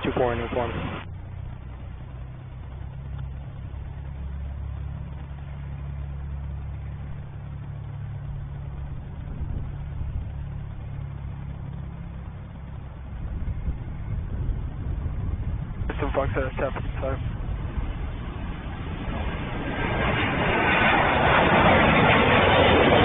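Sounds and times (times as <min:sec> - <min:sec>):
aircraft engine drone: 0:00.0 - 0:23.0.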